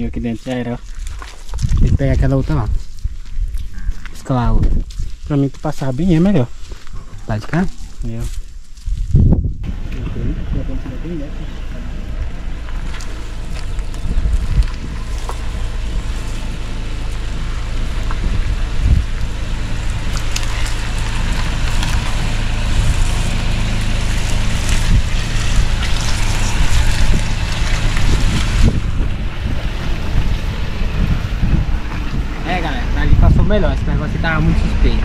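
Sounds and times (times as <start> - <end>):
car engine running low: 0.0 - 35.0
tyres through mud: 0.0 - 35.0
wind on microphone: 1.0 - 5.3, 6.9 - 11.0, 12.1 - 35.0.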